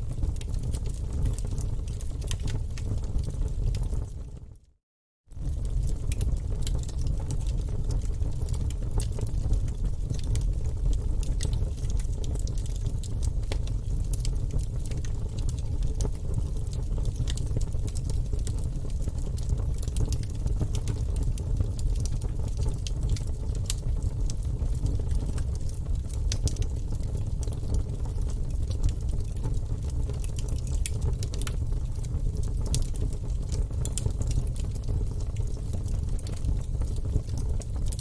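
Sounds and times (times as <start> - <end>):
low rumble of flames: 0.0 - 4.6, 5.3 - 38.0
logs crackling and popping: 5.4 - 38.0.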